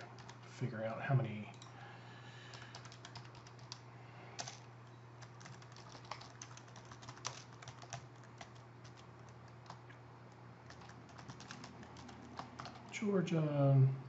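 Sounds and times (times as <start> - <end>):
faint keyboard typing: 0.0 - 13.0
steady low hum: 0.0 - 14.0.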